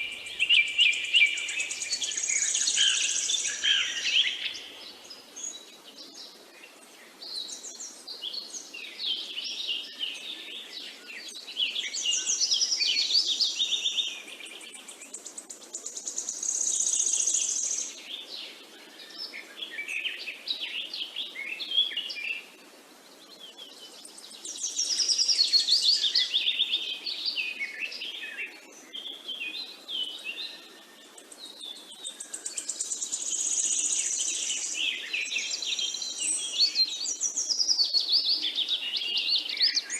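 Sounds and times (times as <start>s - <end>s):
bird chirps and trills: 0.0s - 22.6s, 23.2s - 39.9s.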